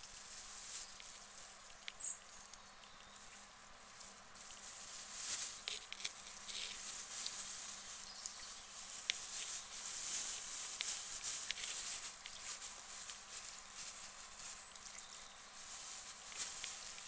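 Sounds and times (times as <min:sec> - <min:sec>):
guinea pigs crunching lettuce: 0:00.0 - 0:17.0.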